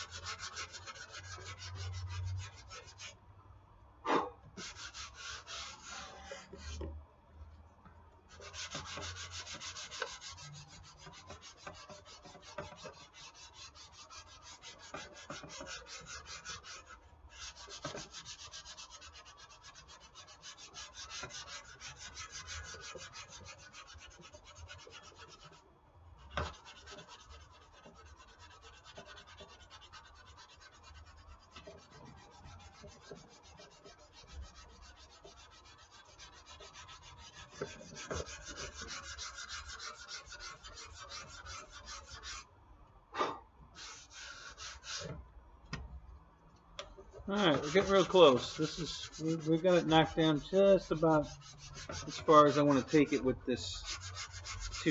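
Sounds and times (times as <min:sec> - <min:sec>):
sandpaper rubbing: 0:00.0 - 0:03.1, 0:04.6 - 0:06.8, 0:08.3 - 0:25.6, 0:26.4 - 0:42.4, 0:43.8 - 0:45.2, 0:47.3 - 0:54.9.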